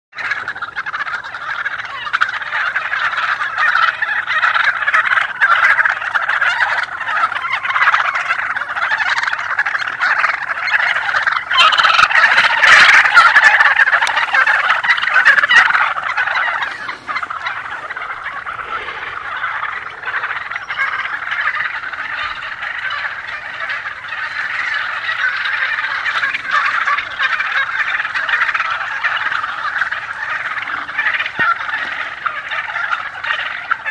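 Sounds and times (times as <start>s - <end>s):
turkeys gobbling: 0.2s - 33.9s.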